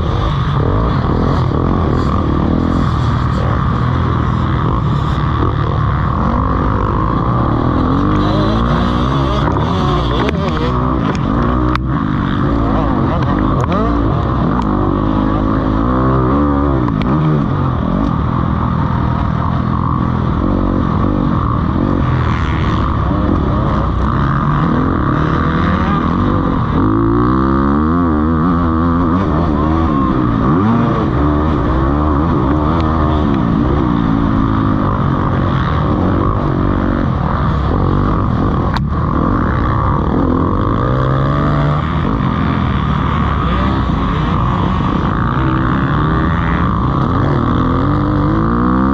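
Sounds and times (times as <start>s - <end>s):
motocross bikes revving: 0.0s - 48.9s.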